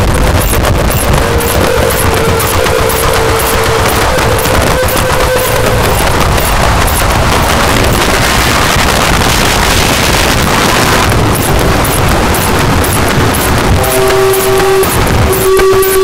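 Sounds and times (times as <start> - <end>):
harsh distorted noise music: 0.0 - 16.0.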